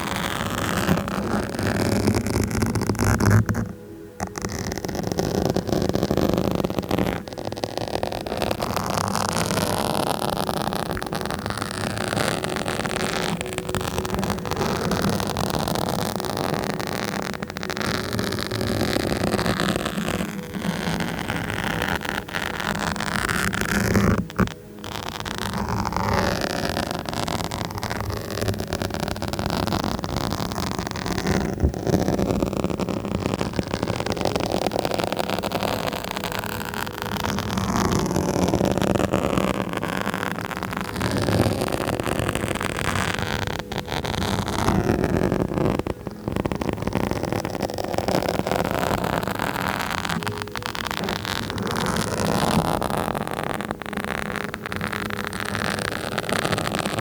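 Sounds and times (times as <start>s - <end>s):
scratching on microphone: 0.0s - 57.0s.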